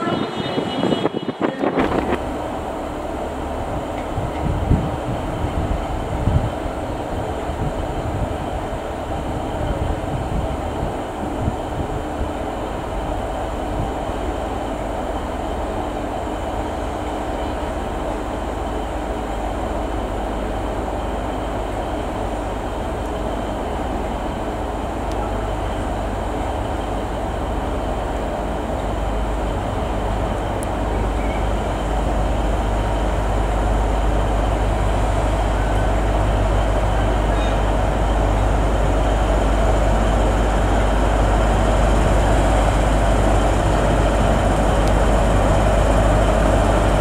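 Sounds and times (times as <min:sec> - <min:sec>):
diesel engine droning: 0:01.4 - 0:47.0.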